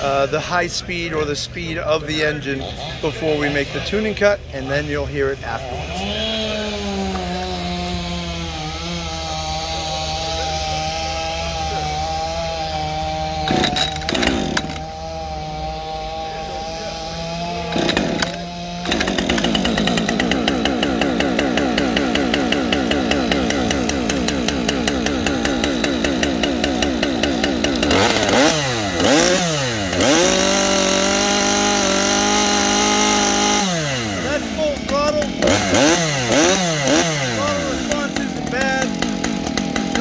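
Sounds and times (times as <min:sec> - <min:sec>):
chainsaw idling and revving: 0:00.0 - 0:40.0.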